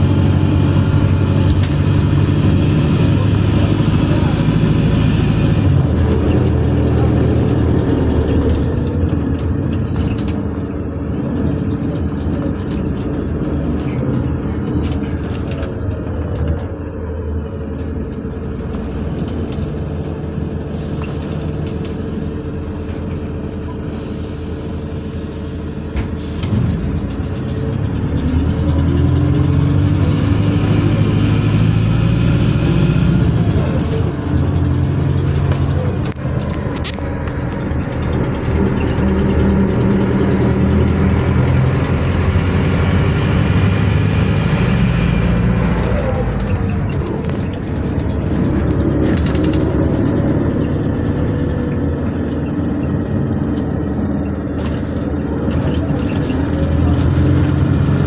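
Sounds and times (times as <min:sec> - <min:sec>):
bus engine from inside cabin: 0:00.0 - 0:58.0.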